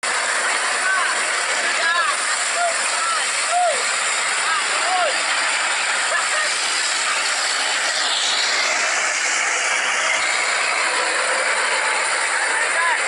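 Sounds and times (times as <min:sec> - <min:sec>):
truck rushing along road: 0:00.0 - 0:13.0.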